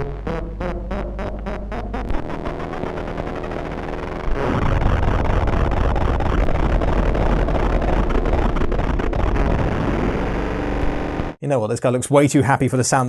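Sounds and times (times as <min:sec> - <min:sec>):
harsh distorted electronic noise: 0:00.0 - 0:11.4.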